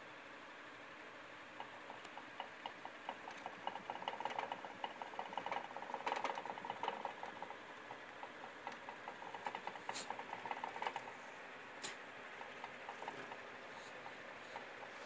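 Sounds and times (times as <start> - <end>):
rapid light clicking in hamster cage: 0.3 - 15.0.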